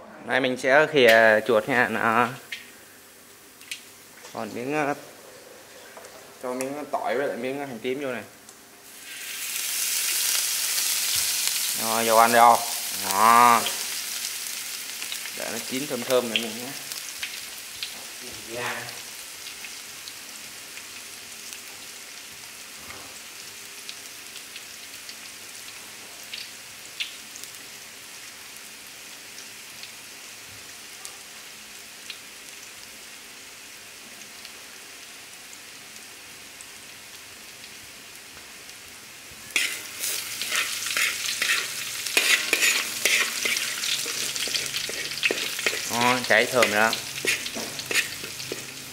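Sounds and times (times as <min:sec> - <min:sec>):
garlic sizzling in a pan: 0:01.1 - 0:48.9.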